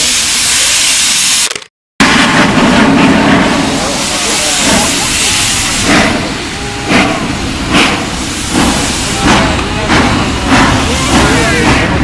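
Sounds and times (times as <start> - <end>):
steam hissing: 0.0 - 1.5, 2.1 - 12.0
steam locomotive chuffing: 2.0 - 12.0.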